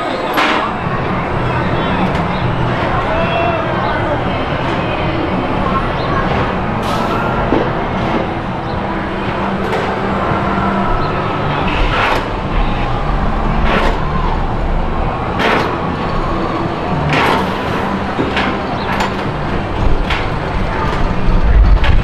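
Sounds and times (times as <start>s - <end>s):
roller coaster rumbling on track: 0.0s - 22.0s.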